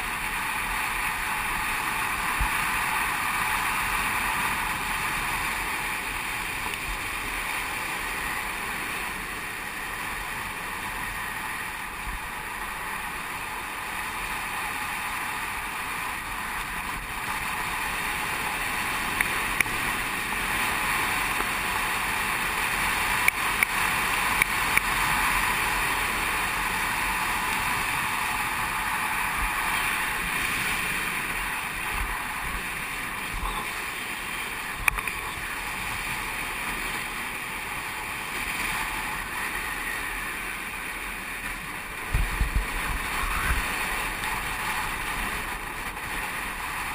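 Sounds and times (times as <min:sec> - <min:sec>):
longboard wheels rolling on asphalt: 0:00.0 - 0:46.9
wind: 0:00.0 - 0:46.9.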